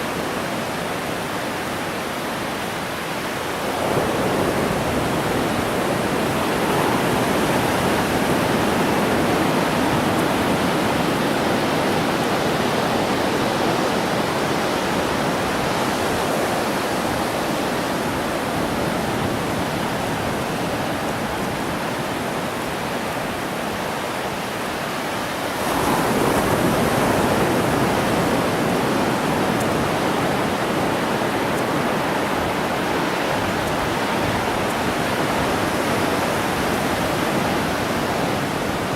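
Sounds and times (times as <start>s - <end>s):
ocean surf washing on beach: 0.0s - 38.9s.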